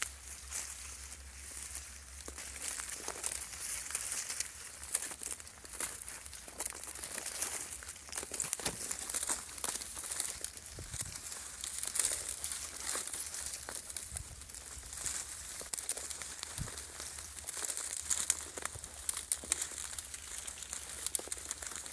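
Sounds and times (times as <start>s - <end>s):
dry plant material crackling: 0.0s - 21.9s.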